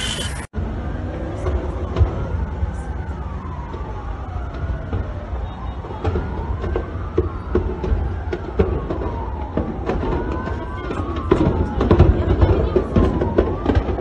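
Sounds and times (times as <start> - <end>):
emergency sirens wailing: 0.6 - 14.0.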